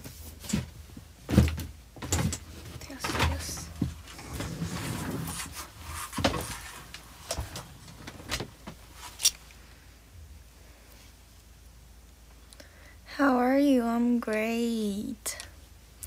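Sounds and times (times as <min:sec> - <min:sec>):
room hiss: 0:00.0 - 0:16.0.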